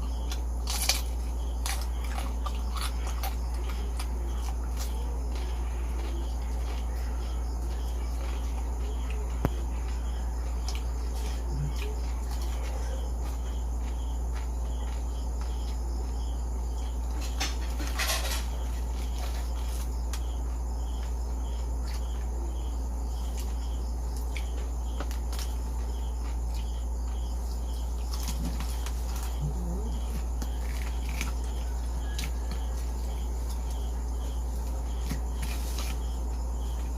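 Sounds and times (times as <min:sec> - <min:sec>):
crickets chirping: 0:00.0 - 0:36.9
crunching crispy food: 0:00.0 - 0:36.9.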